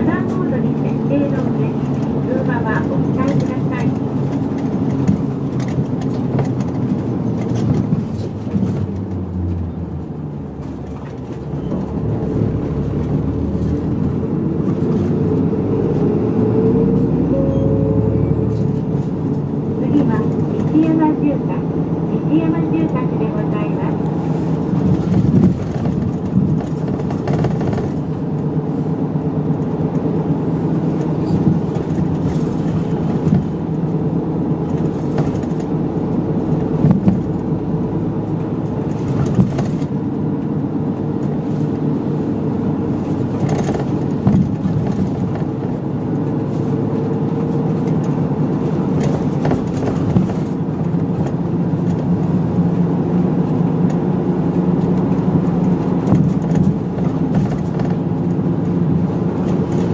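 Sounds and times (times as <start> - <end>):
bus engine hum: 0.0 - 59.9
road noise: 0.0 - 59.9.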